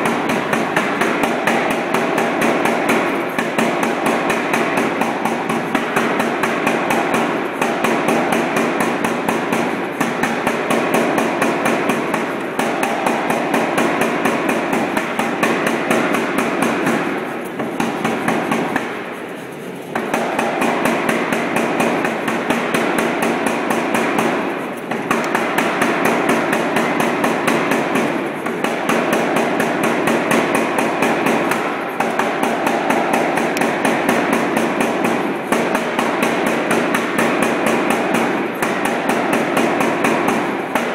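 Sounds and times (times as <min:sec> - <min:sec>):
power hammer striking hot steel: 0:00.0 - 0:19.2, 0:20.0 - 0:40.9.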